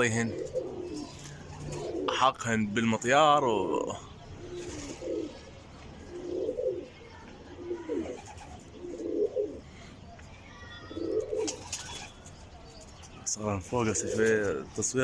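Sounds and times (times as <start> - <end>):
pigeons cooing: 0.0 - 10.0, 10.7 - 15.0.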